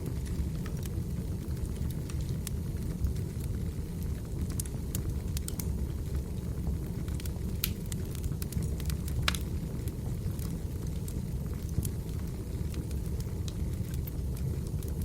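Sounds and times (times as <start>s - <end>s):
fire crackling and popping: 0.0s - 15.0s
wood fire rumbling: 0.0s - 15.0s.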